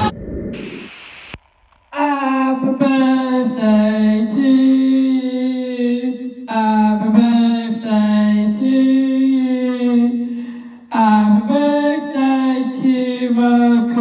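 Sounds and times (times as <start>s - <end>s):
woman singing into microphone: 2.0s - 14.0s.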